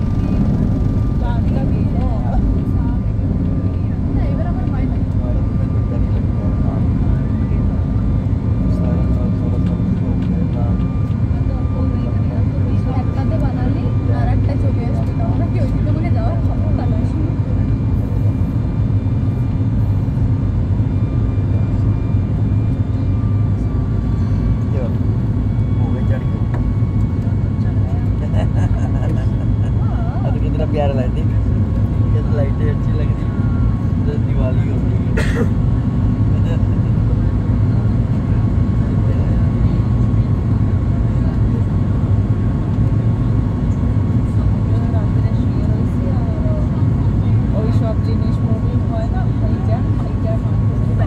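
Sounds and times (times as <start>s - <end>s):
airplane cabin engine rumble: 0.0s - 51.0s.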